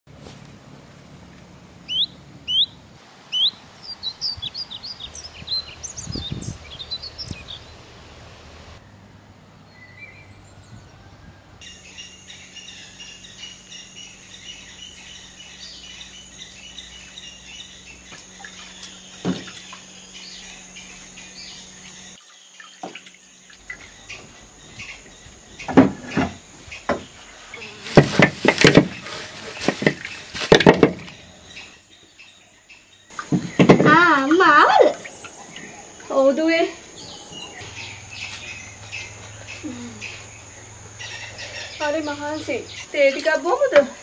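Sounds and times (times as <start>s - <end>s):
birds chirping chorus: 1.3s - 44.0s
birds whistling calls: 1.8s - 7.9s, 11.6s - 44.0s.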